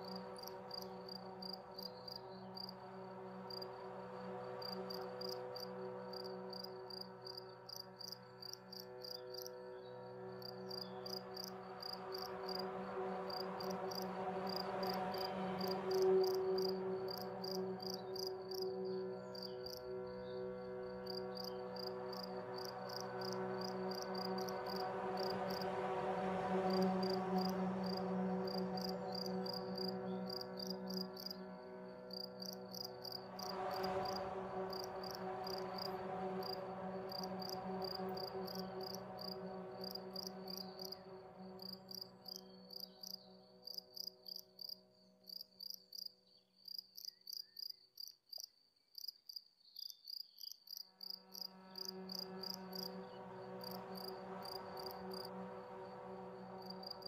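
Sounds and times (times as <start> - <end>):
sustained musical drone: 0.0 - 46.3, 51.0 - 57.0
crickets chirping: 0.0 - 57.0.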